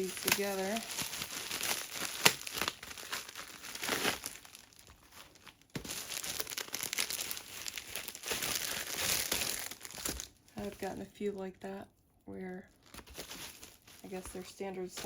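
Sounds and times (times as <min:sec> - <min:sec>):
packaging crinkling: 0:00.0 - 0:10.9, 0:12.7 - 0:14.4.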